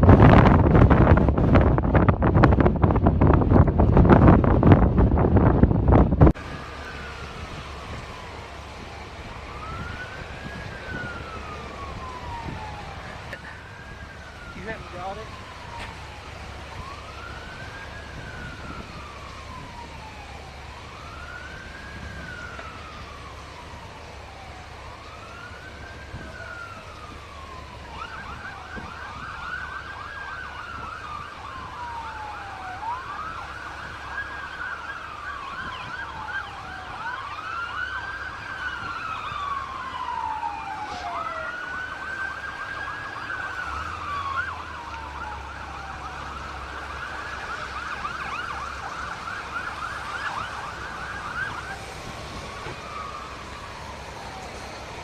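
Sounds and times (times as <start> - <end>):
emergency vehicle siren: 0.0 - 55.0.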